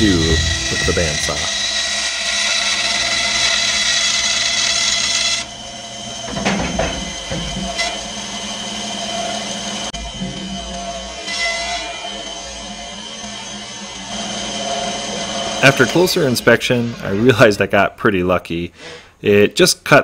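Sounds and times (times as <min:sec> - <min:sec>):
bandsaw cutting wood: 0:00.0 - 0:17.3
bandsaw running: 0:00.0 - 0:17.4.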